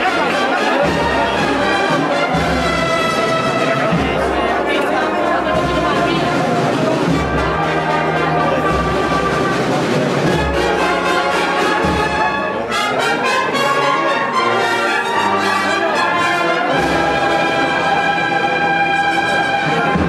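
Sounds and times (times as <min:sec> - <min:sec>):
brass band playing a march: 0:00.0 - 0:20.0.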